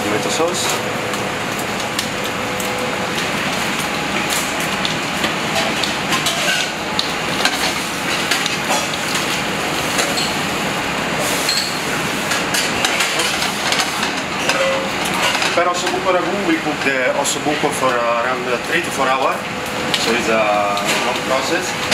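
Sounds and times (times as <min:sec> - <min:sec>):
kitchen ventilation noise: 0:00.0 - 0:21.9
meat sizzling in a frying pan: 0:01.1 - 0:21.9.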